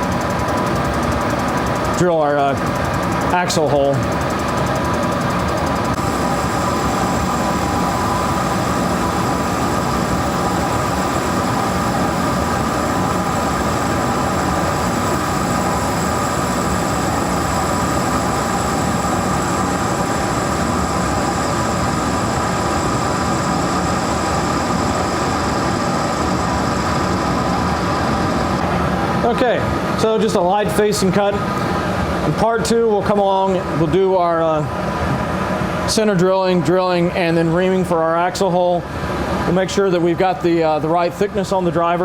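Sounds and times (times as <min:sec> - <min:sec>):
metal lathe motor and gear whine: 0:00.0 - 0:42.0.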